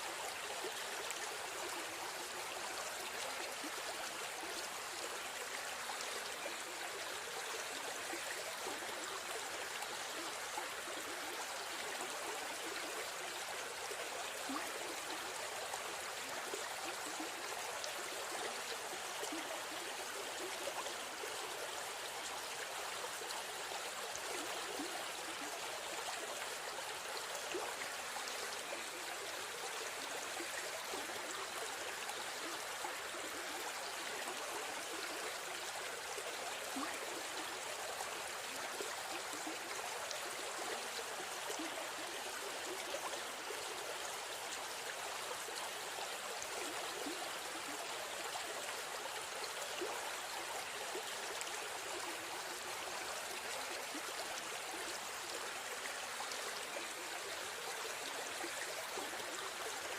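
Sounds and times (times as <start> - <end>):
stream flowing and burbling: 0.0 - 59.9.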